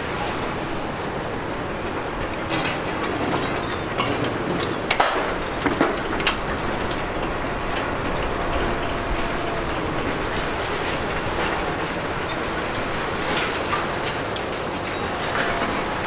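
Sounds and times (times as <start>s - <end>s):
demolition excavator machinery: 0.0s - 16.0s.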